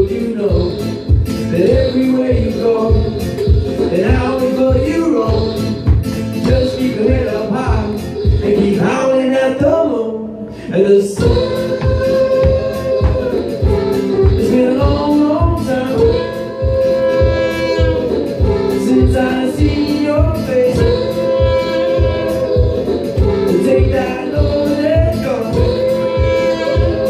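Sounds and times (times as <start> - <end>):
looped beatbox beat: 0.0 - 9.3, 10.4 - 27.0
looped vocal harmonies: 0.0 - 27.0.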